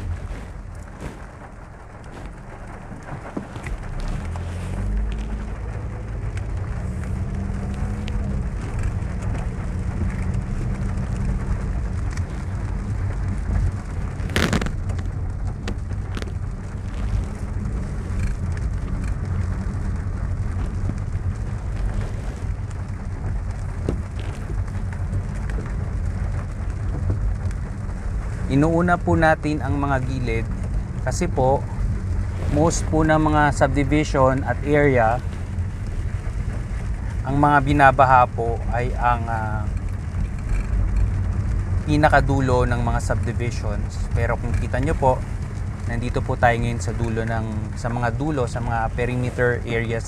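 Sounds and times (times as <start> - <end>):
car engine and road rumble: 0.0 - 50.0
heavy rain on car roof: 0.0 - 50.0.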